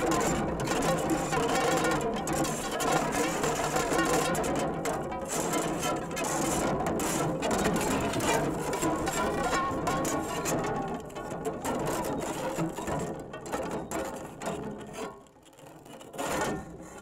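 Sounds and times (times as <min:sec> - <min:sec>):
dense scraping texture: 0:00.0 - 0:17.0.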